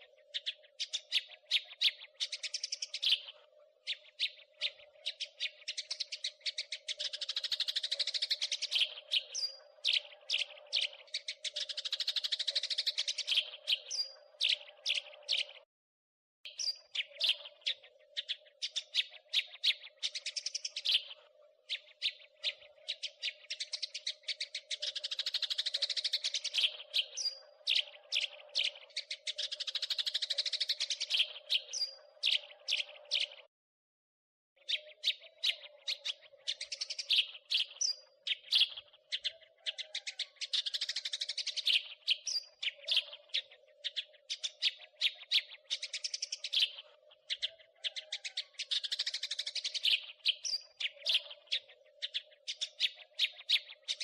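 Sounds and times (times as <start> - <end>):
sparrows chirping: 0.0 - 15.7, 16.5 - 33.5, 34.6 - 54.0.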